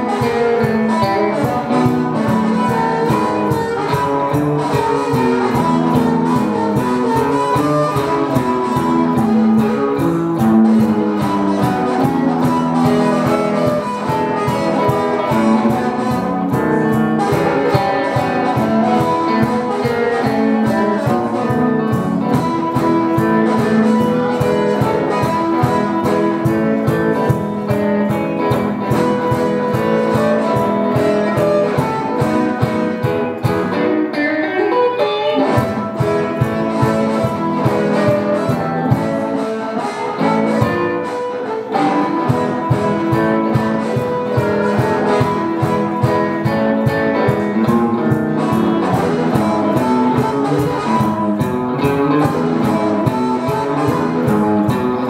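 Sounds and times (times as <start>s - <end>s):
amplified blues harmonica: 0.0s - 55.0s
bass: 0.0s - 55.0s
electric guitar rhythm: 0.0s - 55.0s.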